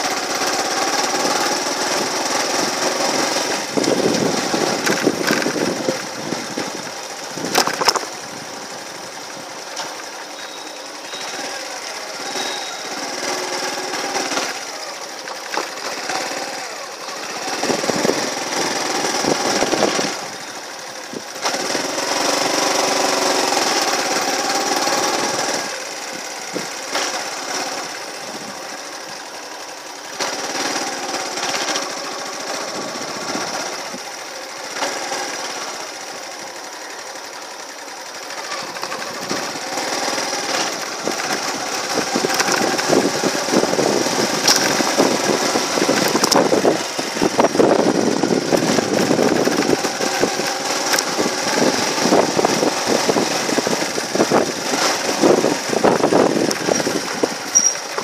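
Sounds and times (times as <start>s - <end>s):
small vehicle engine running: 0.0s - 58.0s.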